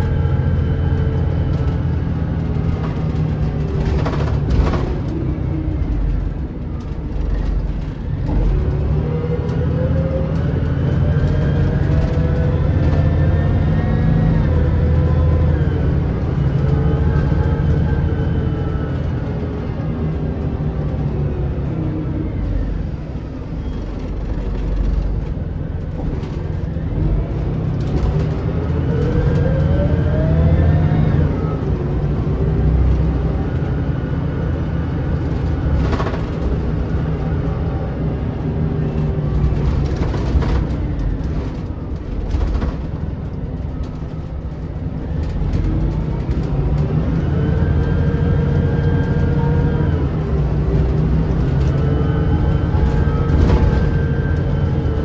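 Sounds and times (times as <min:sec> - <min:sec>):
bus diesel engine rumble and whine: 0:00.0 - 0:55.0.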